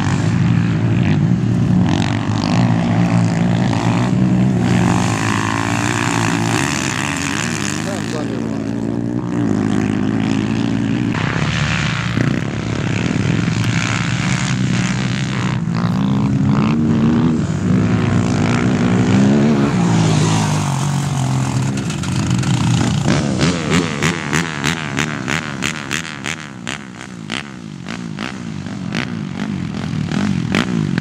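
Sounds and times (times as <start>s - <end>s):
quad bike engines revving: 0.0s - 31.0s.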